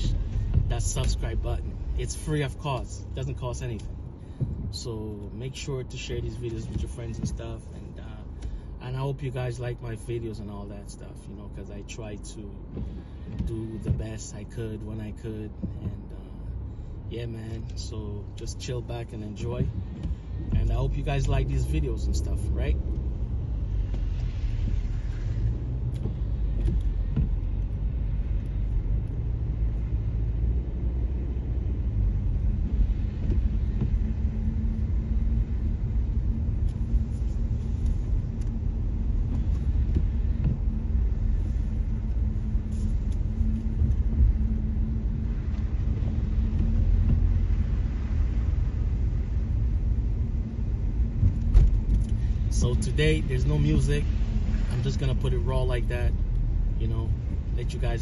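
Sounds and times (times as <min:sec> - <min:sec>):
engine and tyre rumble: 0:00.0 - 0:58.0.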